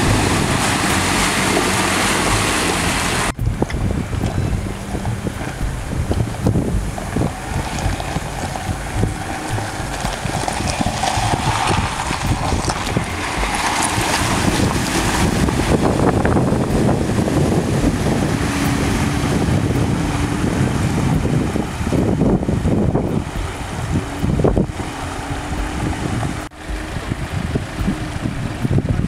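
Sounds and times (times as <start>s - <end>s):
car engine running: 0.0s - 29.0s
water splashing around wheels: 0.0s - 29.0s
wind on microphone: 0.0s - 29.0s.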